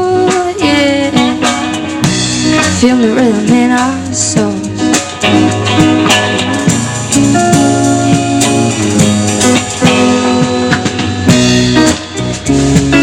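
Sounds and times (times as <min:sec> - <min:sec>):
bass guitar: 0:00.0 - 0:13.0
drum kit: 0:00.0 - 0:13.0
guitar: 0:00.0 - 0:13.0.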